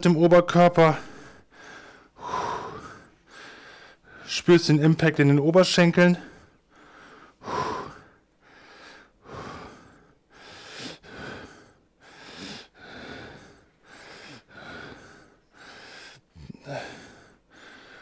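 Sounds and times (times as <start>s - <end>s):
man breathing hard: 1.0s - 4.3s, 6.2s - 18.0s.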